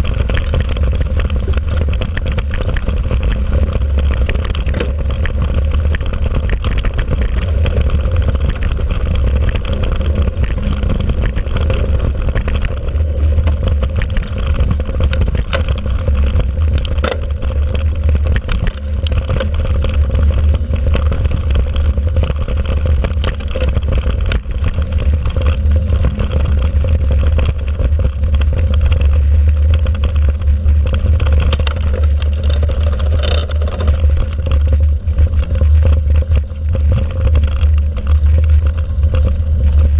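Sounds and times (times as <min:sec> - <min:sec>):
bike clattering and rattling: 0:00.0 - 0:39.9.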